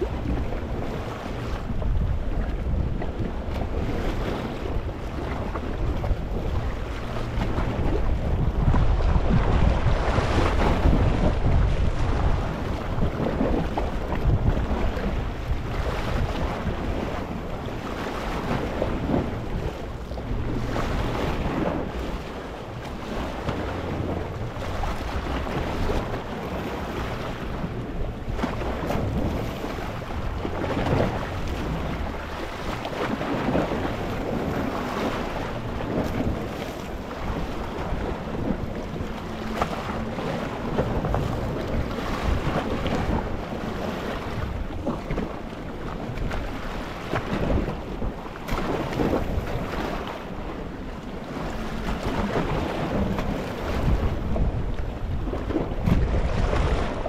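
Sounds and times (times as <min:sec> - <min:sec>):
sea waves washing over rocks: 0:00.0 - 0:57.0.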